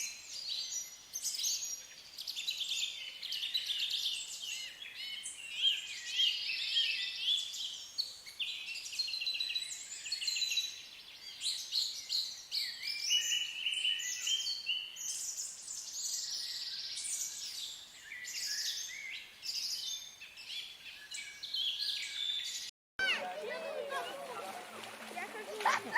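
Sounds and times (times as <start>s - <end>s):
songbirds chorus: 0.0s - 25.9s.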